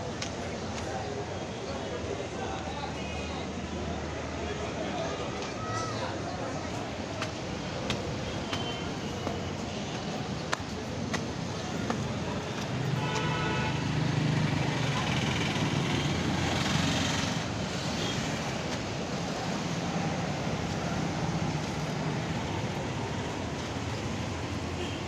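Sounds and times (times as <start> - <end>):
traffic noise: 0.0 - 25.0.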